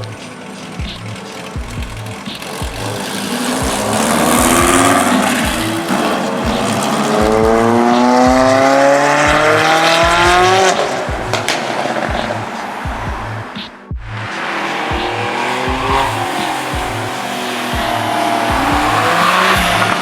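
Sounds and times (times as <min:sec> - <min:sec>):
background music with steady beat: 0:00.0 - 0:20.0
car engine accelerating: 0:00.0 - 0:20.0.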